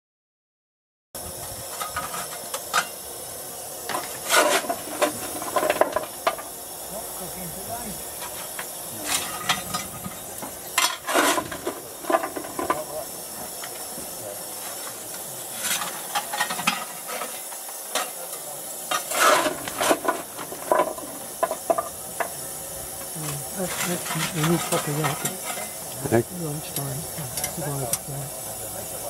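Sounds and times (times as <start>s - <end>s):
steam hissing: 1.2s - 29.0s
metal tools clanking and scraping: 1.6s - 3.1s, 3.9s - 7.2s, 8.1s - 28.1s.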